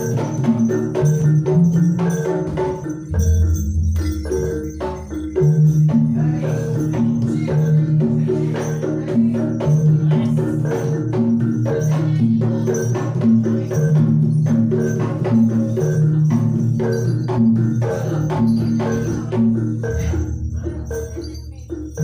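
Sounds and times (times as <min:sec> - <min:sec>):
gong-chime and metallophone notes: 0:00.0 - 0:22.0
struck percussion beat: 0:00.0 - 0:22.0.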